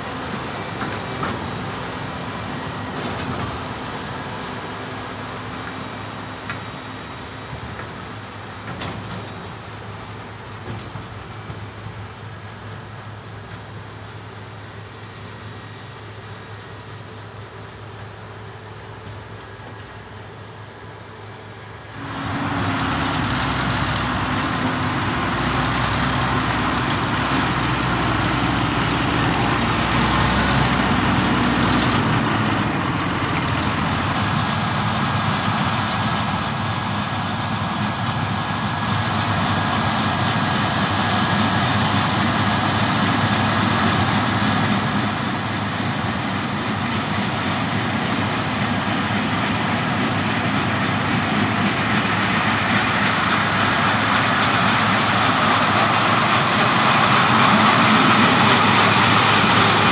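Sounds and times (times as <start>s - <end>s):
combine harvester working: 0.0s - 59.9s.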